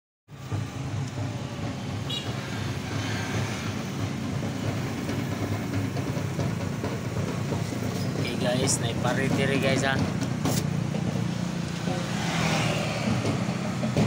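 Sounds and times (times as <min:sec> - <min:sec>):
motorcycle and scooter engines: 0:00.3 - 0:14.0
road noise: 0:00.3 - 0:14.0.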